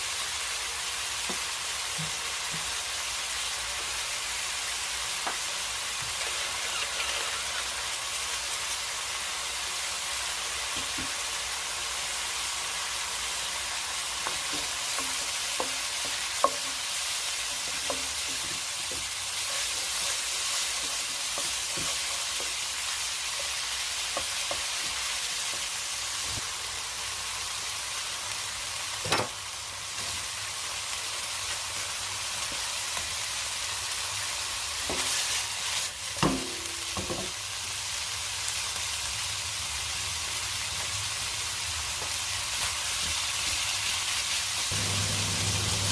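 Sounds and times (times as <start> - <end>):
food sizzling in a frying pan: 0.0 - 45.9.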